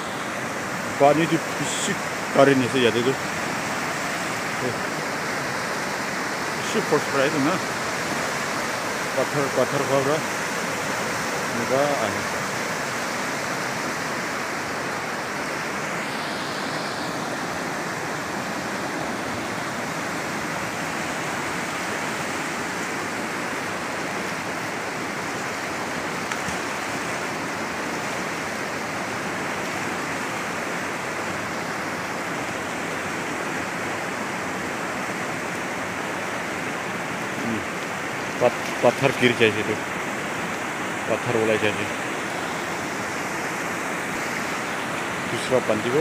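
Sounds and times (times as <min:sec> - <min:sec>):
river rapids rushing over rocks: 0:00.0 - 0:46.0.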